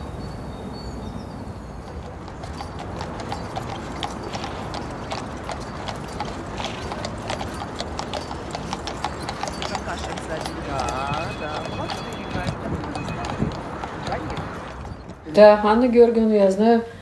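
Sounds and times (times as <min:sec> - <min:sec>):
horse hooves clip-clopping on pavement: 0:01.5 - 0:16.3.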